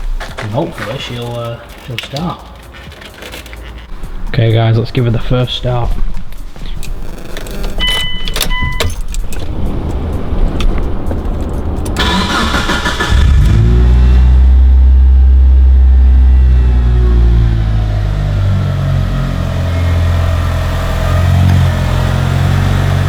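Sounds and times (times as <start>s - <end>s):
car engine cranking and idling: 0.0s - 23.0s.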